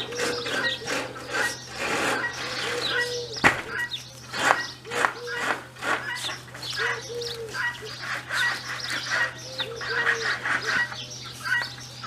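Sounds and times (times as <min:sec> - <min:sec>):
dove cooing: 0:00.0 - 0:11.8
small birds chirping: 0:00.0 - 0:12.0.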